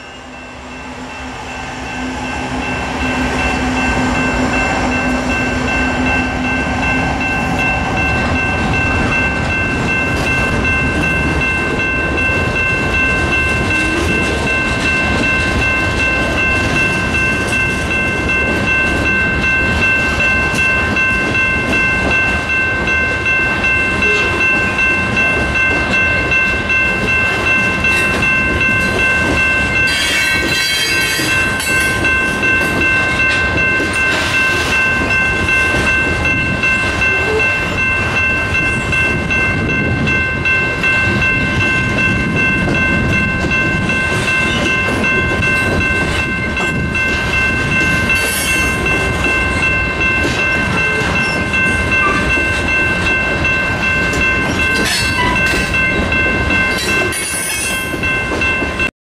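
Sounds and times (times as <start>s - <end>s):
locomotive engine drone: 0.0s - 56.9s
train wheels rumbling on rails: 0.0s - 58.9s.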